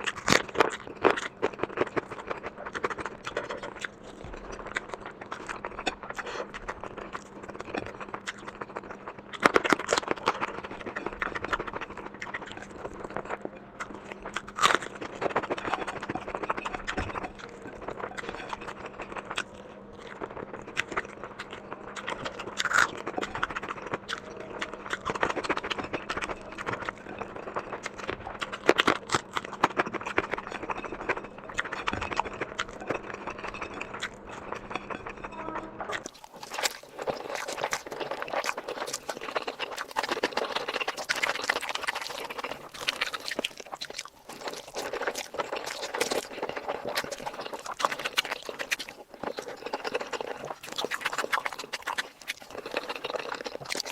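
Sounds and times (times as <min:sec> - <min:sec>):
chewing and crunching food: 0:00.0 - 0:53.9
faint steady hum: 0:00.0 - 0:53.9.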